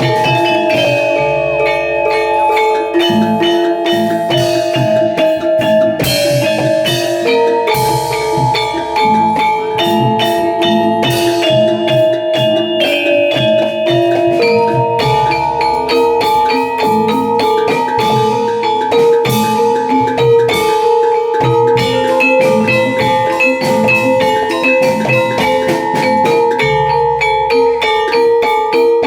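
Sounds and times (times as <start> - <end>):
drums: 0.0 - 29.0
gong-chime and metallophone notes: 0.0 - 29.0.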